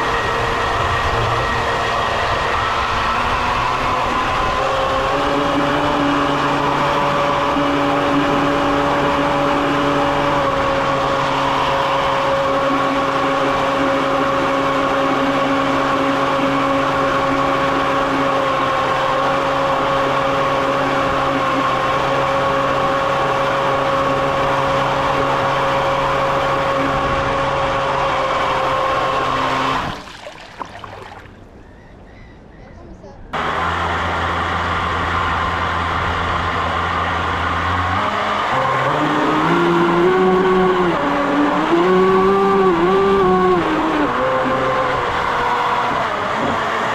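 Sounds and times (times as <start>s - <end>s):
motor humming: 0.0s - 30.1s, 33.4s - 46.9s.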